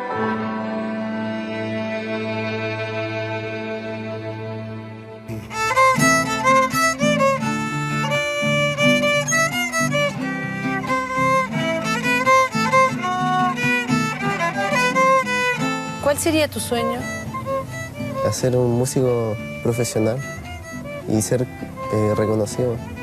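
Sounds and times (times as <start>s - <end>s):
lower accompaniment: 0.0s - 23.0s
violin melody: 0.0s - 23.0s.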